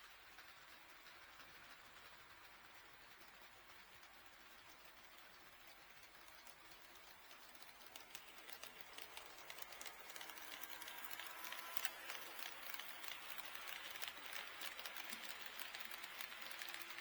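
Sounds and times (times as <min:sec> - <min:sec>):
model train wheels clicking: 0:00.0 - 0:17.0.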